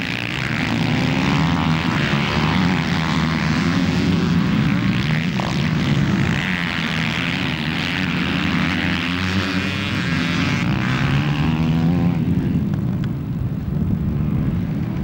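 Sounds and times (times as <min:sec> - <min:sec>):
motorcycle engines droning: 0:00.0 - 0:15.0.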